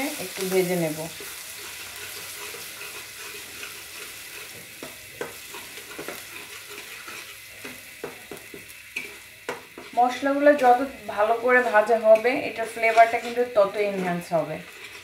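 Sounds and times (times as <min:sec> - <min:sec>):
paste sizzling in hot oil: 0:00.0 - 0:15.0
spatula scraping a pan: 0:00.2 - 0:15.0.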